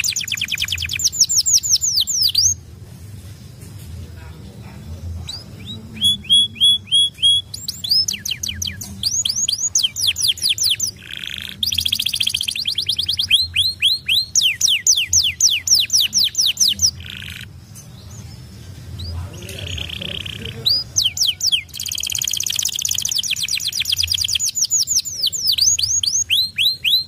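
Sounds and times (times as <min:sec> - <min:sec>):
canary singing: 0:00.0 - 0:02.7, 0:04.3 - 0:27.0.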